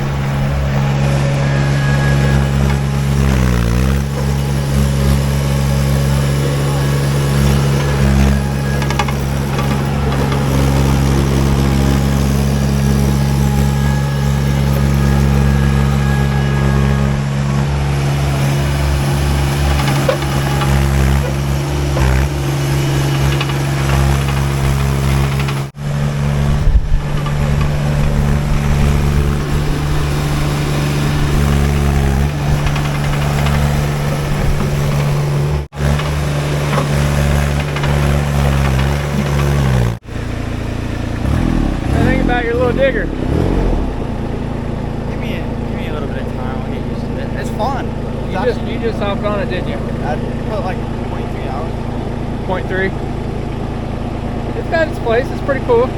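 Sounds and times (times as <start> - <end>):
skid steer engine running: 0.0 - 55.9.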